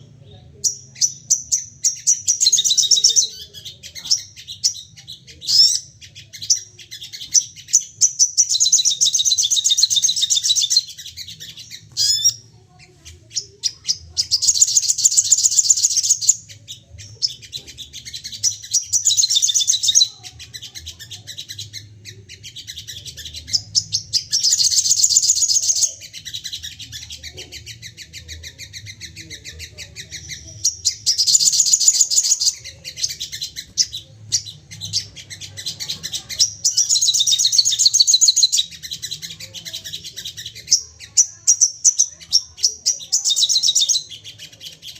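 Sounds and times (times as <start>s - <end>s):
songbird trilling: 0.2s - 12.4s, 13.3s - 44.9s.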